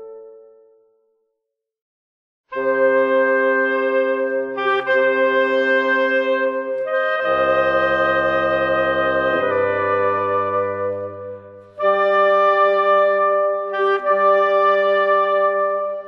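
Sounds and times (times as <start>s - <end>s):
brass band playing a march: 2.6s - 16.0s.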